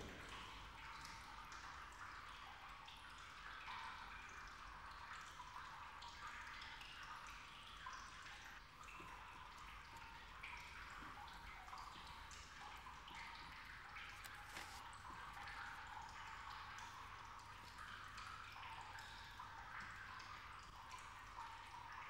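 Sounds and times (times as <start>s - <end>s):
water dripping and trickling: 0.0s - 22.0s.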